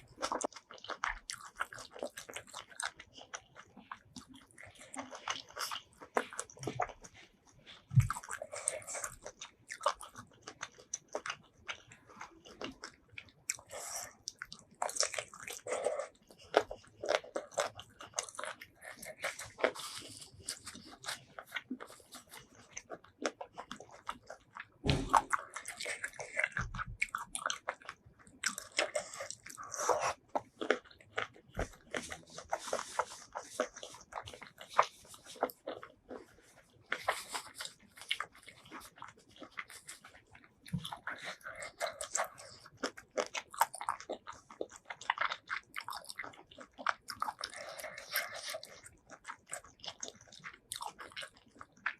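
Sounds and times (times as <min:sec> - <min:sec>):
chewing with crunches: 0:00.0 - 0:51.9.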